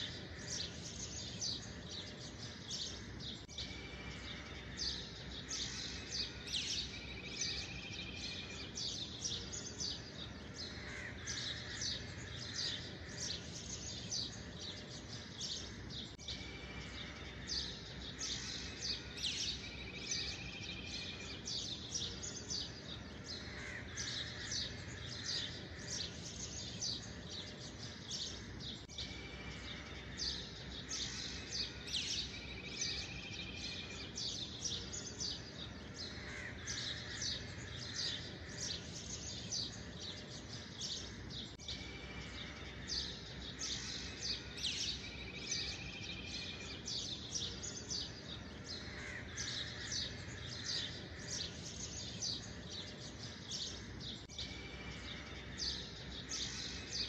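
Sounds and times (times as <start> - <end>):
bird trill: 0.0 - 57.0
small birds chirping: 0.0 - 57.0.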